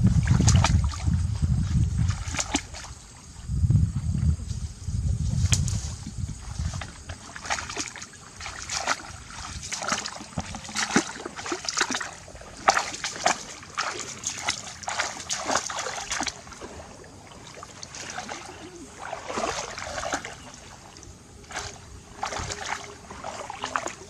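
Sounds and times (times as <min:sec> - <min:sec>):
water splashing and sloshing: 0:00.0 - 0:03.5, 0:05.2 - 0:24.0.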